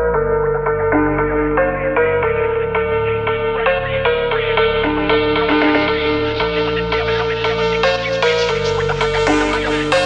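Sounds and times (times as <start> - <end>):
plucked melody over drone: 0.0 - 10.0.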